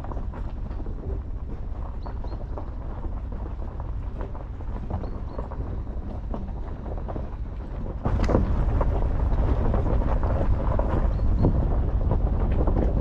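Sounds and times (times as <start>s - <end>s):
knocks and rattles: 0.0s - 13.0s
off-road vehicle rumbling: 0.0s - 13.0s.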